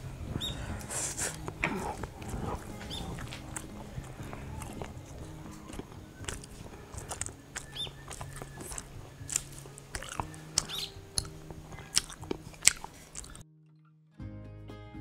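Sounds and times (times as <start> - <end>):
person chewing food: 0.4 - 13.4
wet mouth clicks and crunches: 0.8 - 13.4.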